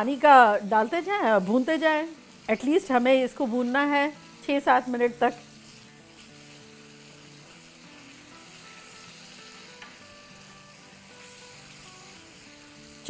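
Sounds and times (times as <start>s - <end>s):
chicken sizzling in a wok: 0.0s - 13.0s
soft background music: 0.0s - 13.0s.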